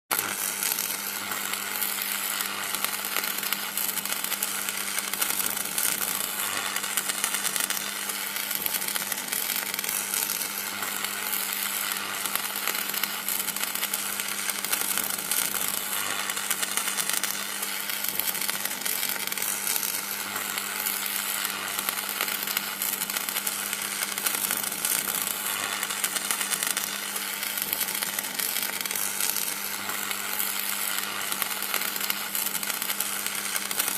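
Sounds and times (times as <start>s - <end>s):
electric crackling and buzzing: 0.1s - 33.9s.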